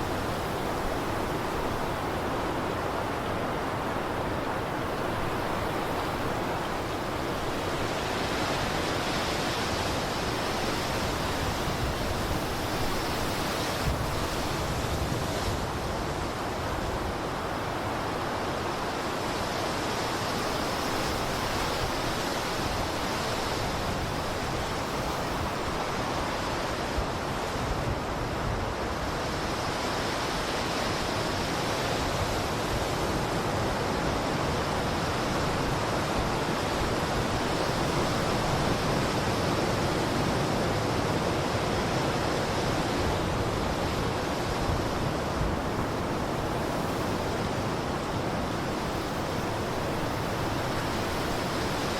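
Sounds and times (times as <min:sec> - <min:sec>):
blizzard wind rushing: 0:00.0 - 0:51.9.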